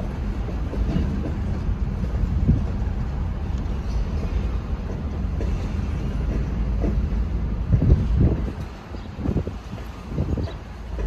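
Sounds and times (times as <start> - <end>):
steel wheels rumbling on rails: 0.0 - 11.0.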